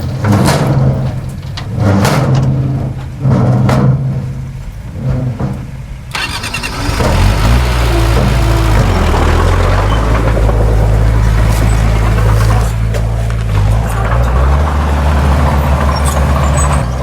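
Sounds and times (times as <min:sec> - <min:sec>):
dense rattling: 0:00.0 - 0:17.0
heavy diesel engine under load: 0:00.0 - 0:17.0
metal clanking and scraping: 0:00.0 - 0:17.0.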